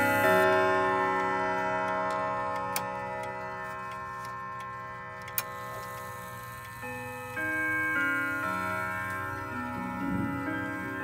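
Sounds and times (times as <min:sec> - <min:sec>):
chime rods ringing: 0:00.0 - 0:11.0.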